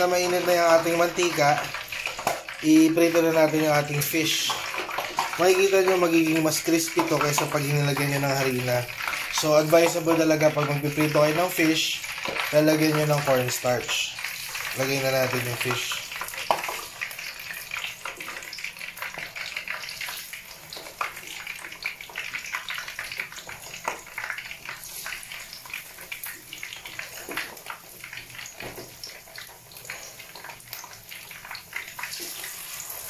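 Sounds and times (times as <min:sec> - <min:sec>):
fish frying in oil: 0:00.0 - 0:33.0.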